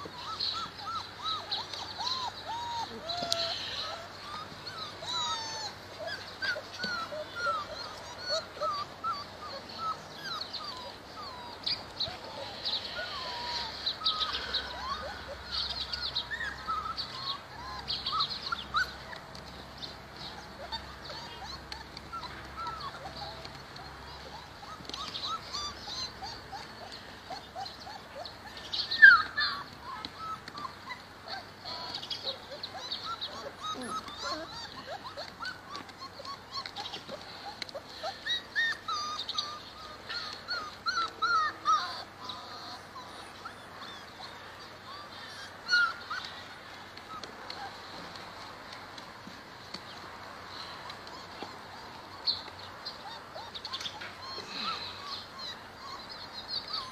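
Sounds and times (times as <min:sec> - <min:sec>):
small animals chirping and squeaking: 0:00.0 - 0:56.9.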